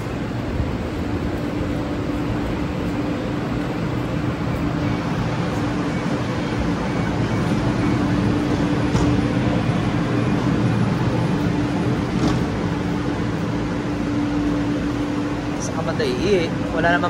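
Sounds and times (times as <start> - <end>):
constant low tone: 0.0 - 15.8
train car humming: 0.0 - 17.0.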